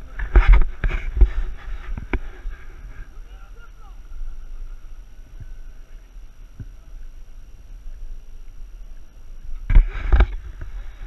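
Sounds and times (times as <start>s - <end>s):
wind gusts buffeting: 0.0s - 11.0s
wind rumbling on microphone: 0.0s - 11.0s.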